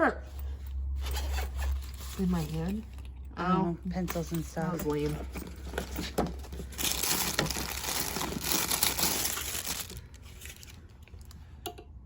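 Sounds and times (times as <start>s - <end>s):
crinkling and rustling: 0.4s - 11.4s.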